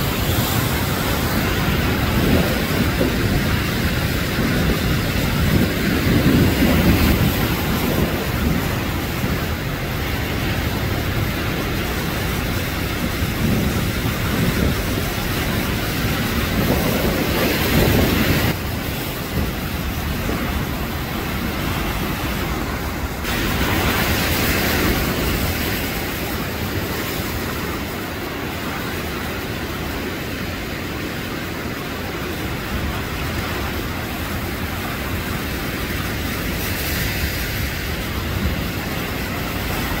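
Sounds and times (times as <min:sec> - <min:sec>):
churning water: 0:00.0 - 0:40.0
waves crashing on rocks: 0:00.0 - 0:40.0.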